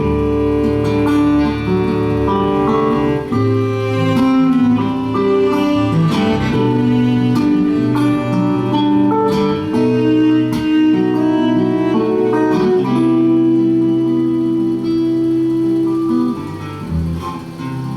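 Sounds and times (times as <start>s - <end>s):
acoustic guitar playing: 0.0s - 17.9s.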